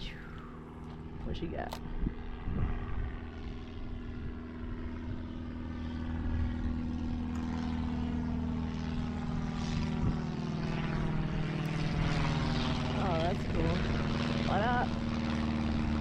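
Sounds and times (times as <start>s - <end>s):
propeller airplane engine drone: 0.0s - 16.0s.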